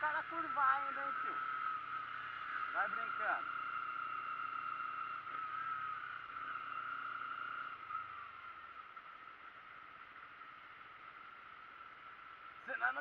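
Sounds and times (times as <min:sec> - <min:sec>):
motorcycle engine whining: 0:00.0 - 0:13.0.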